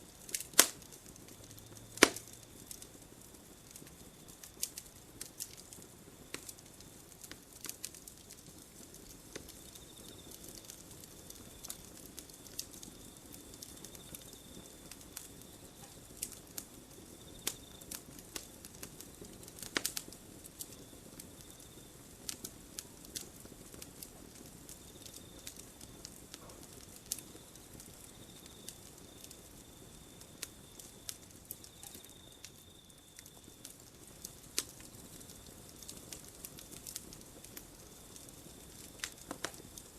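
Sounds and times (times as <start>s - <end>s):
campfire crackling: 0.0s - 39.9s
hiss of flames: 0.0s - 39.9s.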